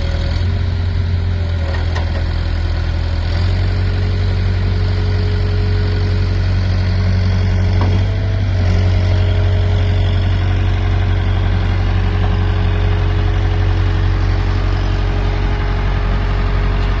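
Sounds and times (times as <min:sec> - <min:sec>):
heavy machine engine idling: 0:00.0 - 0:17.0.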